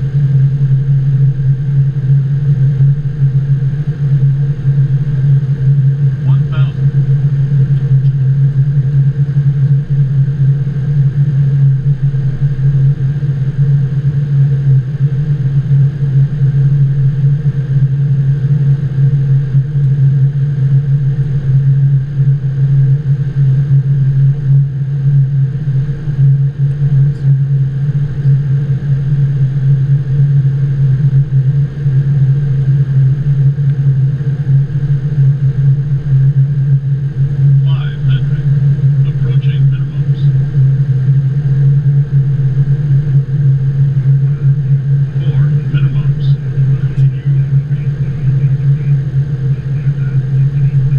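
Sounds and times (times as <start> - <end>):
faint high whine: 0.0 - 50.9
loud low cockpit hum: 0.0 - 50.9.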